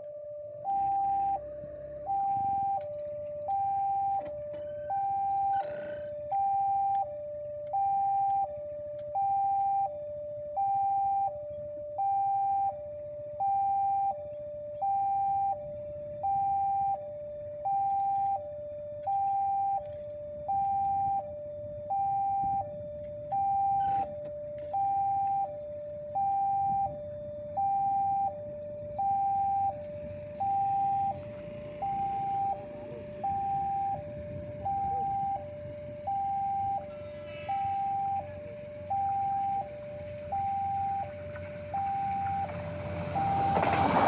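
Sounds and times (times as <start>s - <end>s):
two-tone crossing siren: 0.0s - 44.0s.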